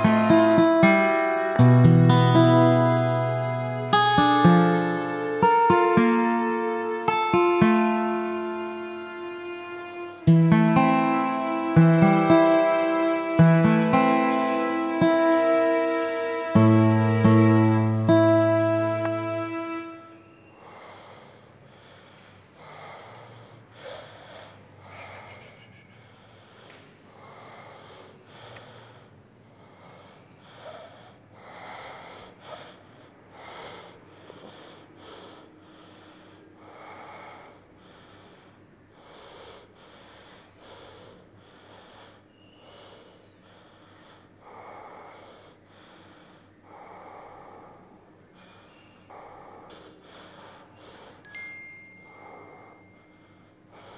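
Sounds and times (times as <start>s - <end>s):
man breathing heavily: 0.0s - 53.9s.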